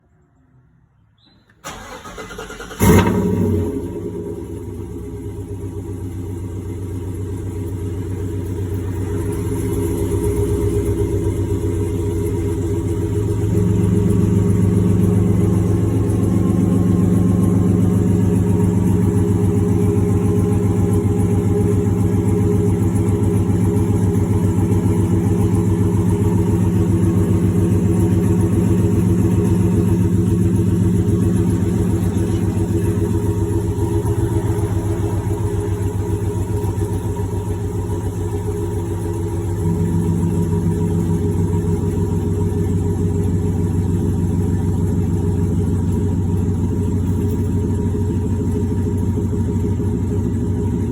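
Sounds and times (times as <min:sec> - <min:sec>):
pickup engine idling: 0:01.6 - 0:50.9.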